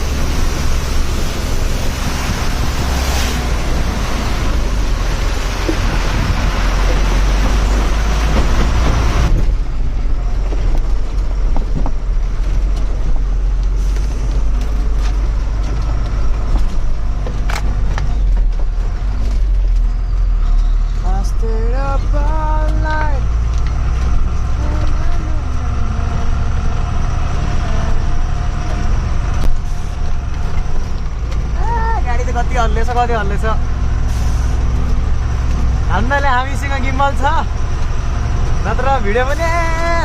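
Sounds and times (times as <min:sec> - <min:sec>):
truck engine droning: 0:00.0 - 0:40.0.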